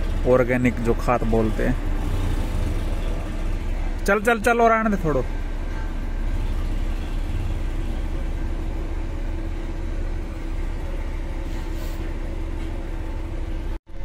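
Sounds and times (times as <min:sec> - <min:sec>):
diesel tractor engine rumbling: 0:00.0 - 0:14.0.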